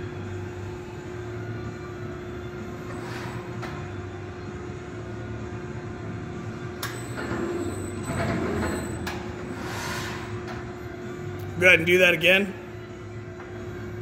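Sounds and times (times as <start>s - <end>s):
folding machine drive hum: 0.0s - 14.0s.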